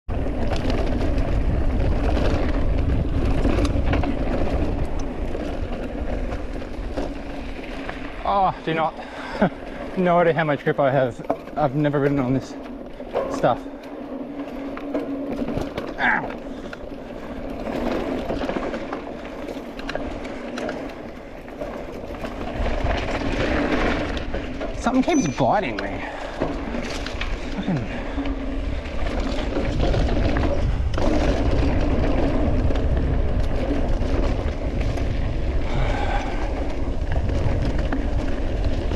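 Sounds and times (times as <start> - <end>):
bike rattling and clicking: 0.1 - 38.9
low riding rumble: 0.1 - 38.9
tyres rolling over loose trail: 0.1 - 38.9.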